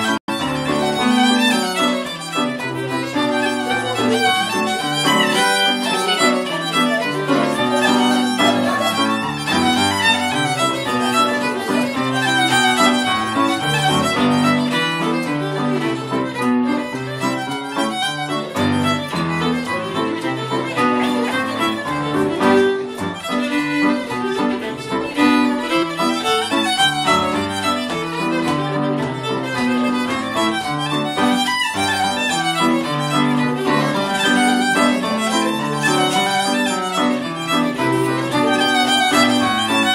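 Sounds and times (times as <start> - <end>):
fiddles playing a fast tune: 0.0 - 39.9
other folk instruments: 0.0 - 39.9.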